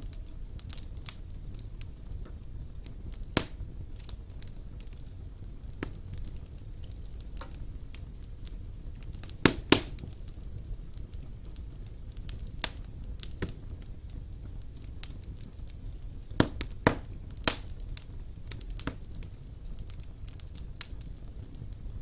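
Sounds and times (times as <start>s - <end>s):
wood fire crackling in a fireplace: 0.0s - 22.0s.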